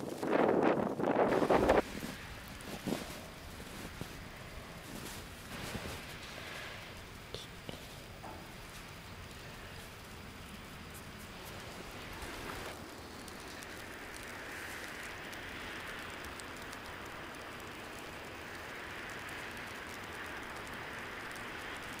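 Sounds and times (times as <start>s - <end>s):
wind and driven snow hiss: 0.0s - 22.0s
faint fine ticks: 0.2s - 22.0s.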